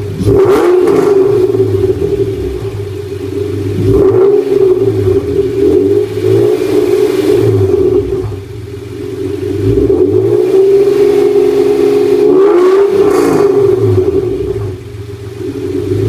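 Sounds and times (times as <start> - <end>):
sports car engine revving: 0.0 - 16.0.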